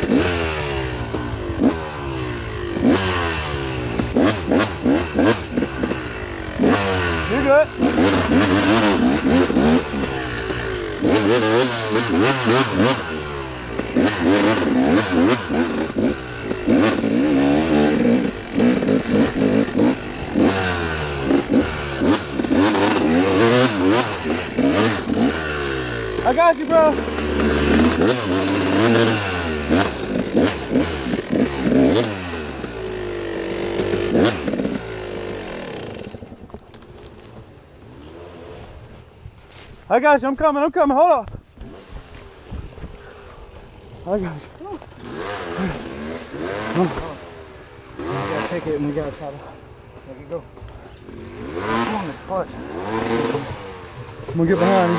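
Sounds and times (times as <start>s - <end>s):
dirt bike engine revving: 0.0s - 36.6s, 37.5s - 39.0s, 40.5s - 54.9s.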